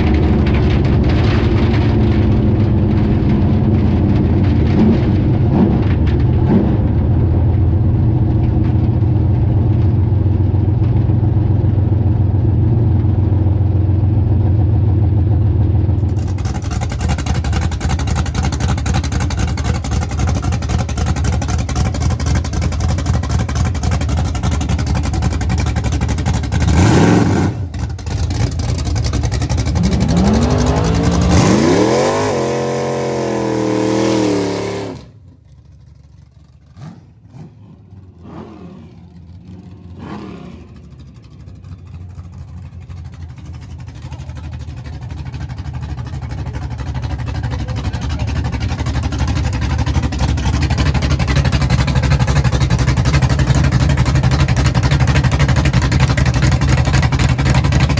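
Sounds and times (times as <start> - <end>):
car engine idling and revving: 0.0 - 57.9.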